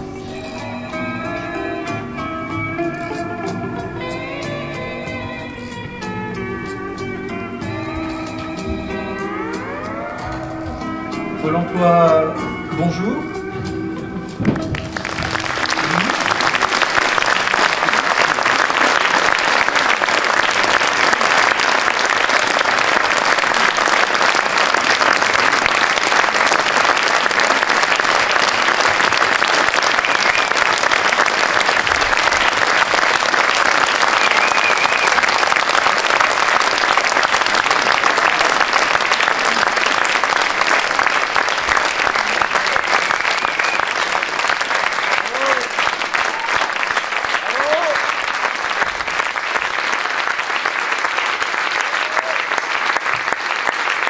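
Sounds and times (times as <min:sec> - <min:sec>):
audience applauding: 0:07.6 - 0:11.2, 0:13.1 - 0:54.0.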